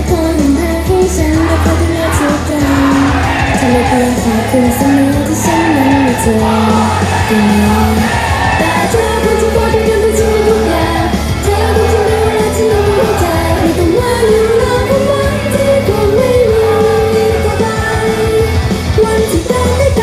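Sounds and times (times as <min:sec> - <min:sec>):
pop backing music with bass: 0:00.0 - 0:20.0
women singing pop song: 0:00.0 - 0:20.0.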